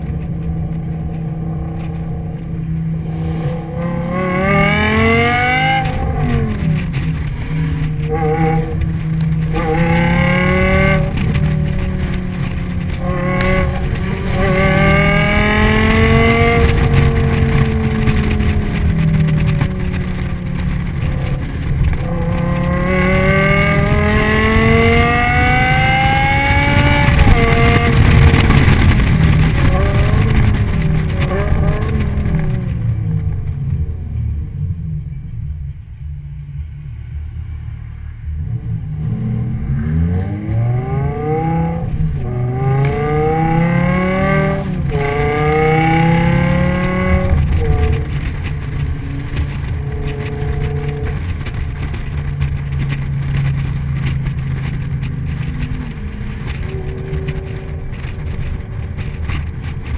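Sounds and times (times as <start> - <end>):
car engine revving: 0.0 - 35.1, 36.4 - 59.9.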